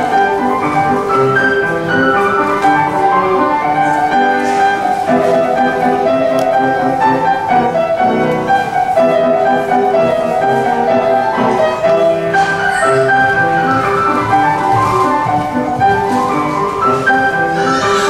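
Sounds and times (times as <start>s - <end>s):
classical piano music: 0.0s - 18.0s.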